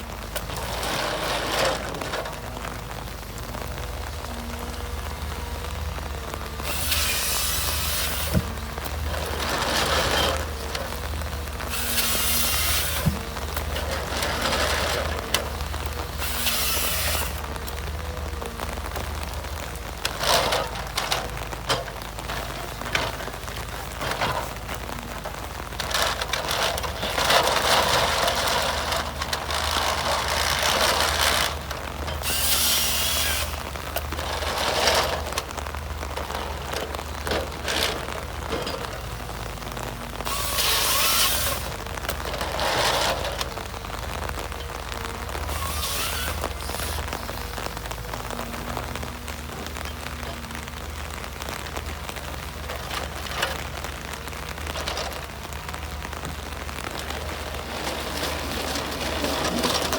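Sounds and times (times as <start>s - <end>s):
engine hum: 0.0s - 59.9s.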